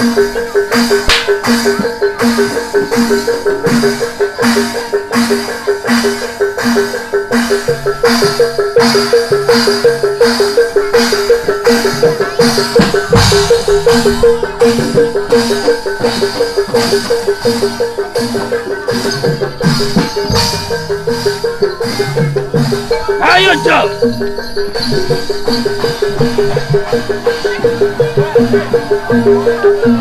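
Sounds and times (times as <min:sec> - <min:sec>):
drums: 0:00.0 - 0:30.0
gamelan gong-chime and metallophone: 0:00.0 - 0:30.0.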